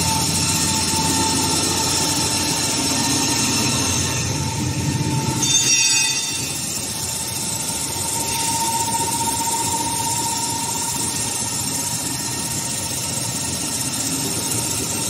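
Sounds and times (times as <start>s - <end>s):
high-pitched whine: 0.0s - 15.0s
machine running with steady whine: 0.0s - 15.0s.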